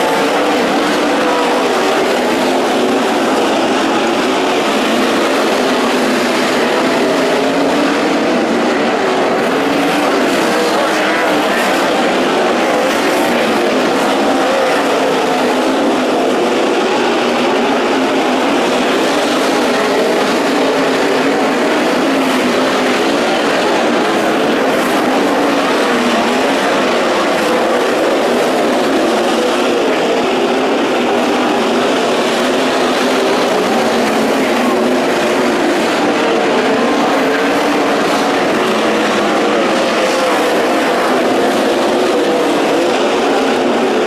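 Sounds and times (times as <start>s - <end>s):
race car engines droning: 0.0s - 44.0s.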